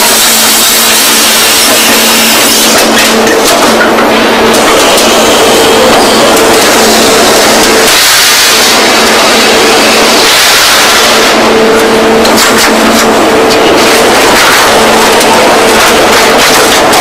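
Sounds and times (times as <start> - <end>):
baling machine hiss and hum: 0.0 - 17.0.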